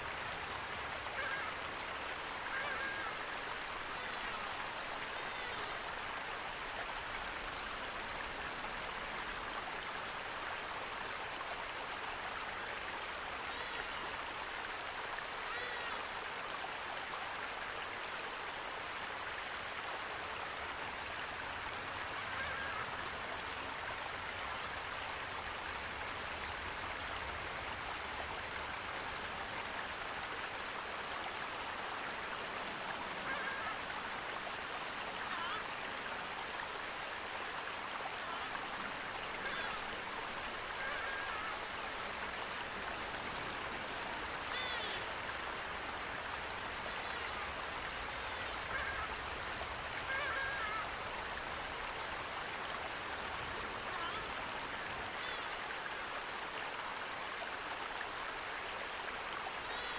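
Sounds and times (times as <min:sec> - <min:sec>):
rushing running water: 0:00.0 - 0:59.9.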